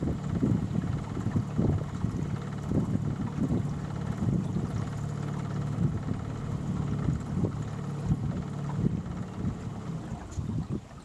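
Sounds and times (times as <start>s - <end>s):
boat motor humming: 0.0s - 11.0s
wind buffeting microphone: 0.0s - 11.0s.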